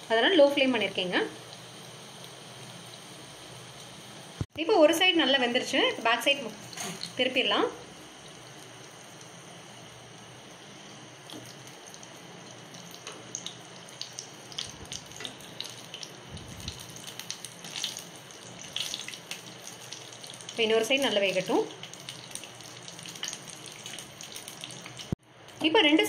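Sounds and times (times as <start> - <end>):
hot oil sizzling: 0.0 - 26.0.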